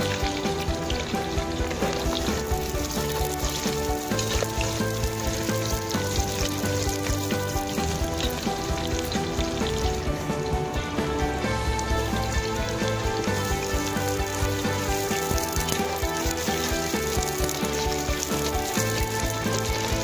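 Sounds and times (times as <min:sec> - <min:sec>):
background music: 0:00.0 - 0:20.0
hot oil sizzling: 0:00.0 - 0:20.0.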